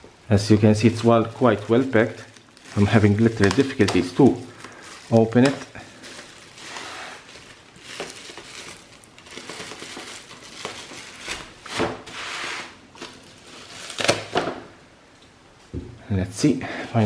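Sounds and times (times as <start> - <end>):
packing material crinkling: 0.3 - 14.7.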